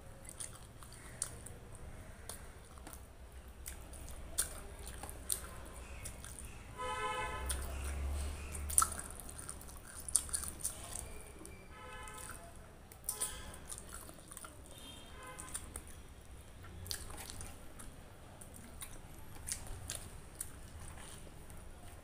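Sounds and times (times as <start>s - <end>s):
mouth clicks and smacks: 0.0s - 6.8s, 7.4s - 22.0s
wet chewing: 0.0s - 22.0s.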